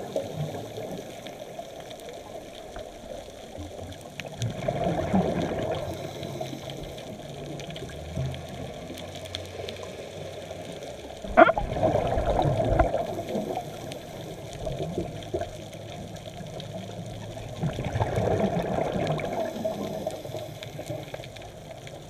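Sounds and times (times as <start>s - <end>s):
scuba exhaust bubbles gurgling: 0.0s - 22.0s
sharp crackle: 0.0s - 22.0s
underwater watery rush: 0.0s - 22.0s.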